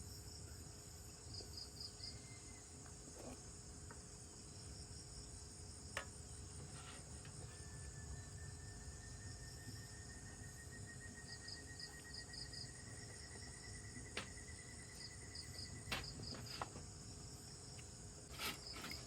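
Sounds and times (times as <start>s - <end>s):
crickets chirping: 0.0s - 19.0s
insects droning: 0.0s - 19.0s.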